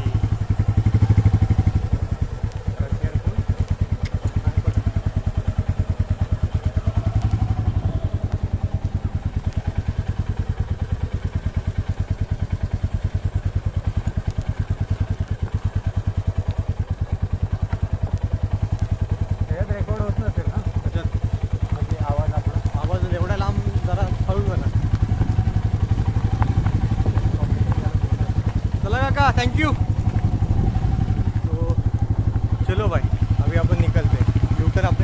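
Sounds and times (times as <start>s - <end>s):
motorcycle engine running at low speed: 0.0s - 35.0s.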